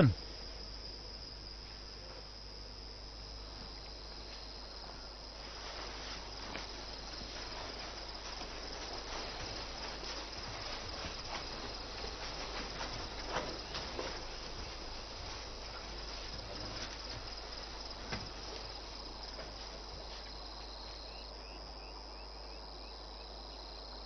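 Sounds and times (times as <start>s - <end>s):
hiss with faint crackles: 0.0s - 24.0s
insects chirping: 0.0s - 24.0s.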